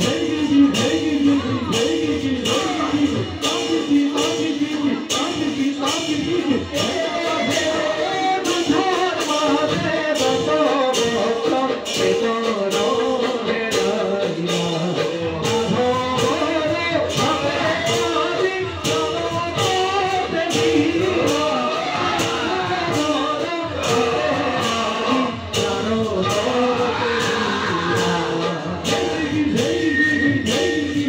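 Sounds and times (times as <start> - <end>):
person singing: 0.0 - 31.0
sharp percussion strokes: 0.0 - 31.0.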